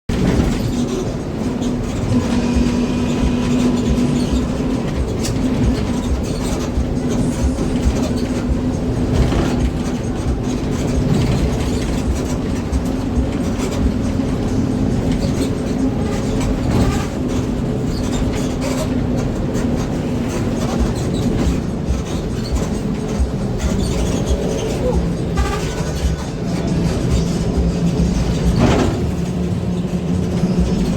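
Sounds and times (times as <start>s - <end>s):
bus engine and growling exhaust: 0.1s - 30.9s.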